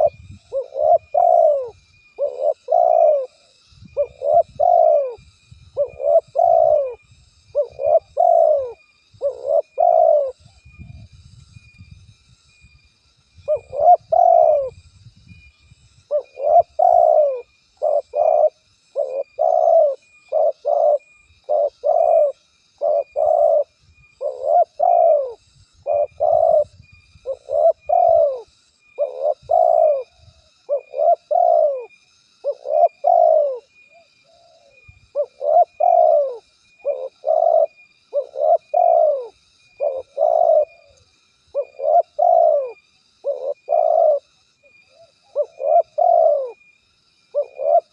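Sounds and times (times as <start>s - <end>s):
dove cooing: 0.0s - 10.5s, 13.5s - 14.8s, 16.1s - 46.7s, 47.3s - 47.9s
faint high chirping: 0.0s - 47.9s.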